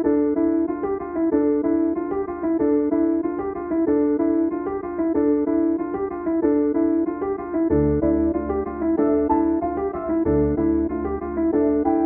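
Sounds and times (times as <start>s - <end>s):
piano melody: 0.0s - 12.0s.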